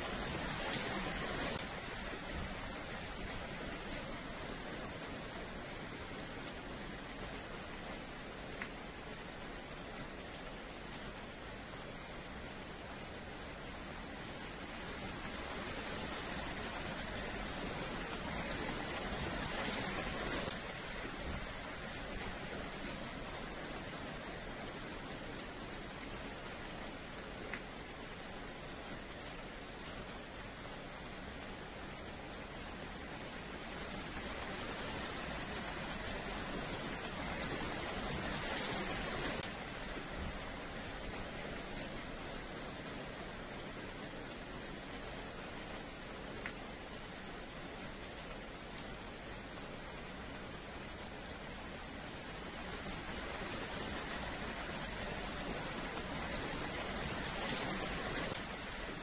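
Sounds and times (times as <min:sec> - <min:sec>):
rain on wet paving: 0:00.0 - 0:59.0.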